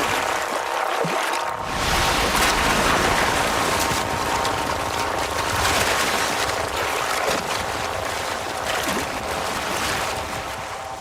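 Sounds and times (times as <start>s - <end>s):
river water splashing and churning: 0.0s - 11.0s.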